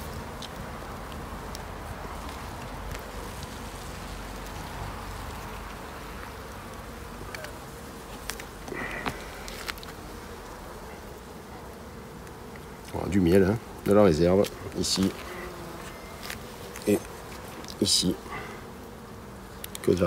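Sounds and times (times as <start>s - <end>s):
bees humming: 0.0s - 20.0s.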